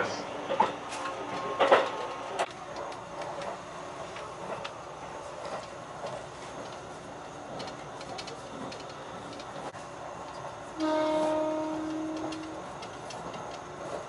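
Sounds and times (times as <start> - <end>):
train cabin running noise: 0.0 - 14.0
faint rail clicks: 0.4 - 14.0.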